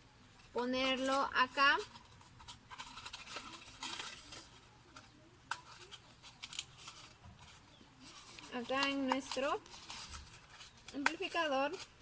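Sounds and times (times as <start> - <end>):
rustling and scraping of cardboard: 0.5 - 12.0.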